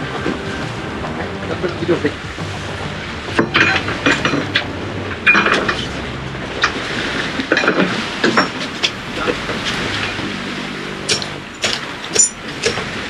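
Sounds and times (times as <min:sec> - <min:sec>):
outboard motor idling: 0:00.0 - 0:13.0
water splashing: 0:00.0 - 0:13.0.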